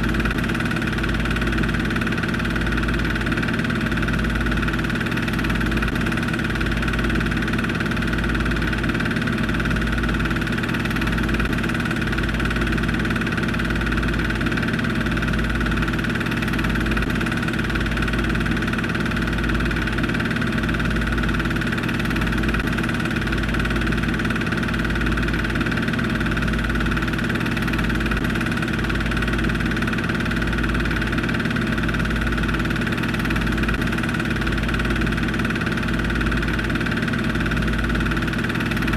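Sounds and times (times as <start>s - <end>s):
film projector running: 0.0s - 38.9s.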